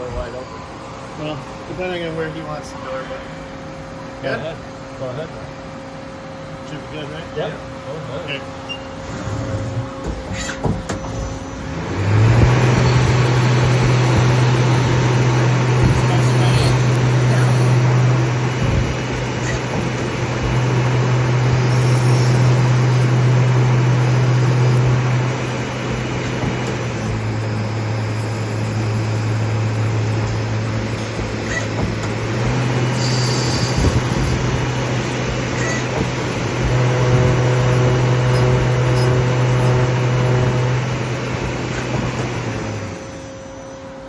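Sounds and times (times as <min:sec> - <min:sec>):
lathe machine hum: 0:00.0 - 0:44.0.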